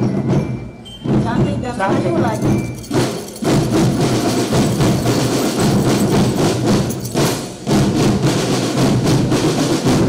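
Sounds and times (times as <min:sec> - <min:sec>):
drumline playing cadence: 0:00.0 - 0:10.0.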